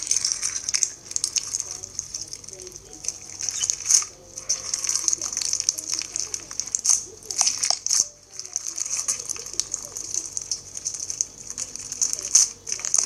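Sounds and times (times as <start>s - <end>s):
bead slime crackling and squishing: 0.0s - 13.0s.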